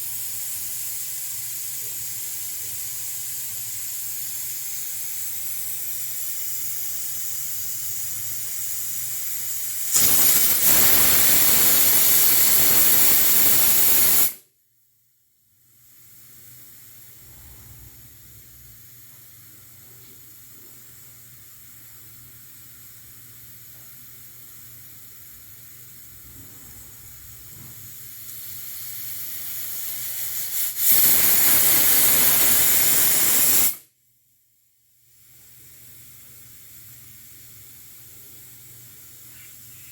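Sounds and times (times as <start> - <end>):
pressure cooker hissing: 0.0 - 14.4, 16.0 - 33.8.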